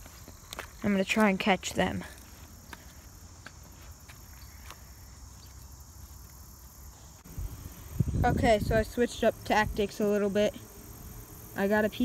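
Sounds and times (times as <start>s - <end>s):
insects chirping drone: 0.0s - 12.0s.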